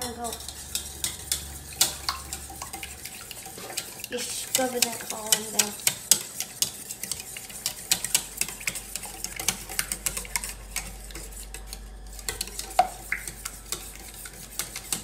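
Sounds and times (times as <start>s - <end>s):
whisk clicking in metal bowl: 0.0s - 15.0s.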